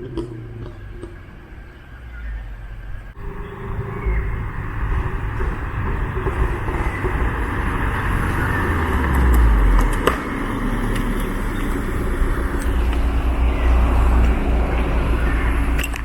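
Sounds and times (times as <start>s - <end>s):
car engine and exhaust rumble: 0.0s - 16.0s
exhaust pop: 3.1s - 16.0s.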